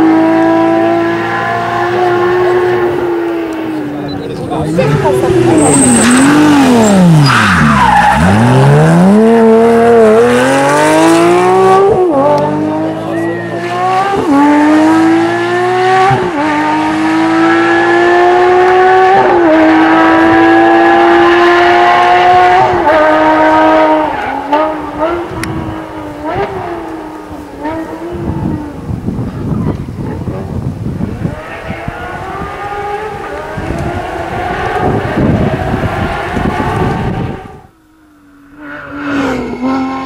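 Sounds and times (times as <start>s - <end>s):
car engine revving with gear shifts: 0.0s - 29.0s, 30.0s - 40.0s.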